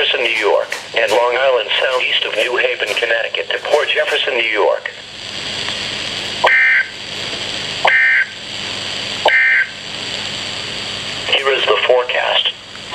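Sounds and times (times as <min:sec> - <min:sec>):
radio hiss: 0:00.0 - 0:12.9.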